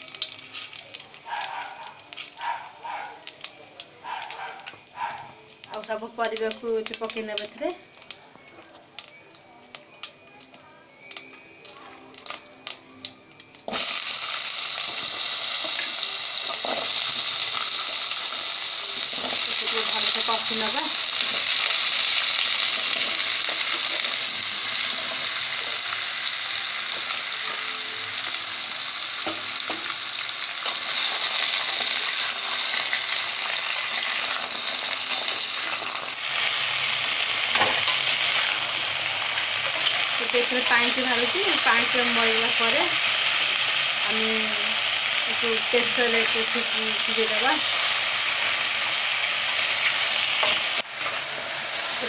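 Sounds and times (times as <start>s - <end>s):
vegetables sizzling in hot oil: 0.0s - 52.0s.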